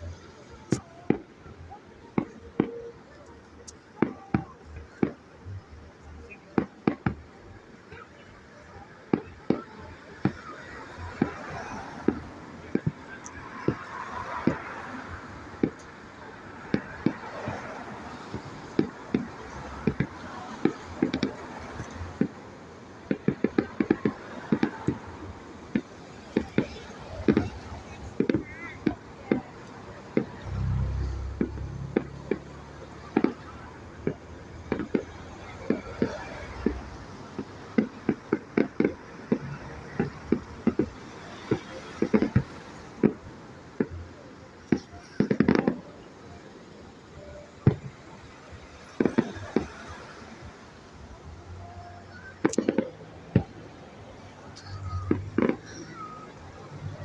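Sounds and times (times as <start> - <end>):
fireworks exploding: 0.0 - 57.0.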